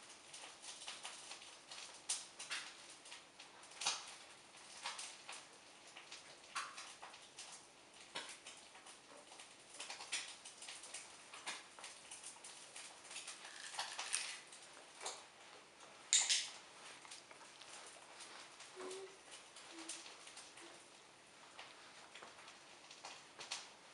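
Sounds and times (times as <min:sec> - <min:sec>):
dog paws and claws pattering: 0:00.0 - 0:23.9.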